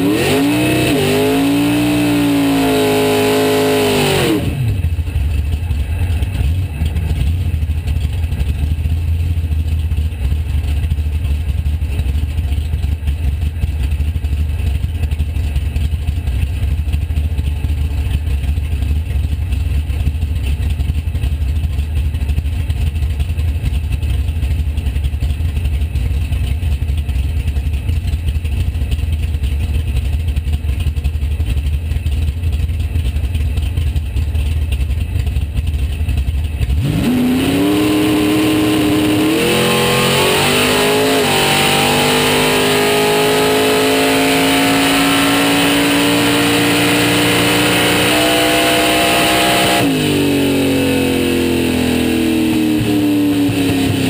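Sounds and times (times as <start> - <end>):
race car engine: 0.0 - 32.1, 32.7 - 54.0.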